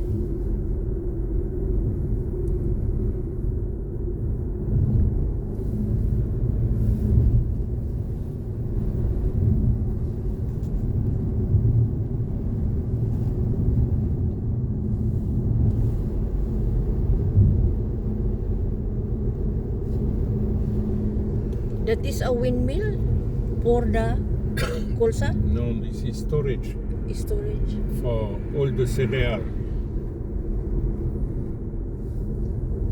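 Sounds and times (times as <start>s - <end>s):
road and engine rumble in car: 0.0s - 32.9s.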